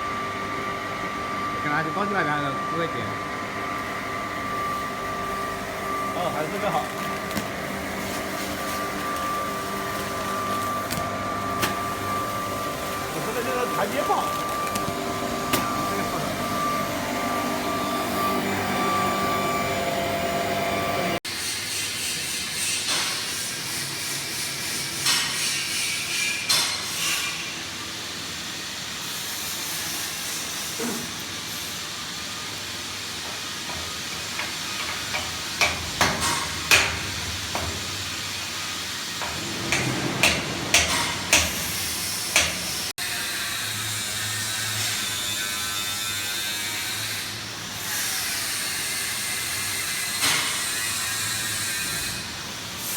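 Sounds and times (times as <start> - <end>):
forming machine running with hiss: 0.0 - 52.9.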